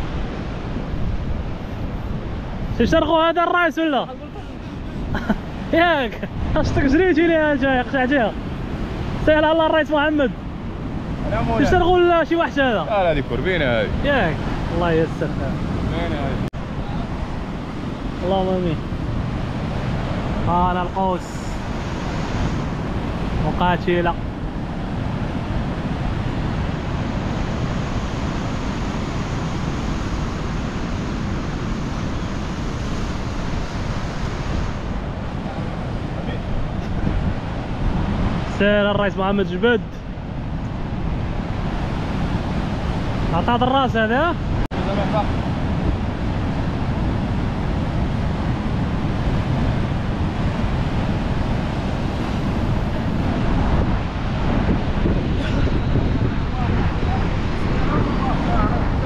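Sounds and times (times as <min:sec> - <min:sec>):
wind noise on microphone: 0:00.0 - 0:03.0, 0:04.3 - 0:59.0.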